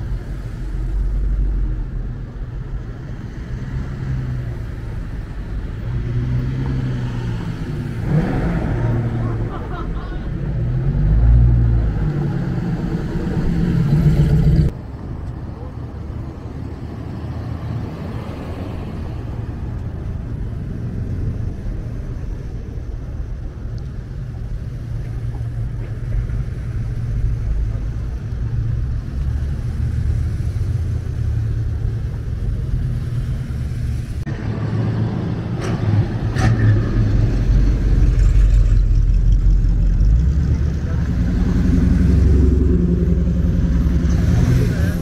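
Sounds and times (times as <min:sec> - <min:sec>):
car engines rumbling: 0:00.0 - 0:45.0.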